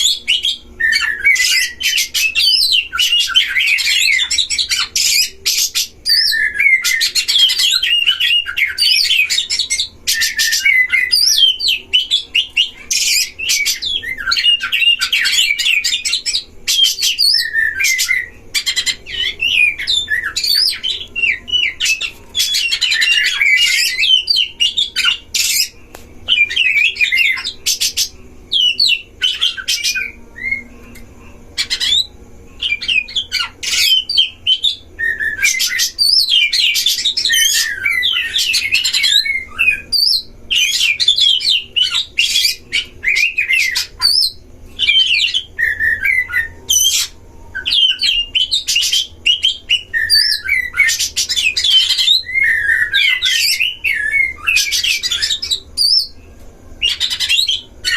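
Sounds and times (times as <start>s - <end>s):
birds singing whistled phrases: 0.0s - 57.9s.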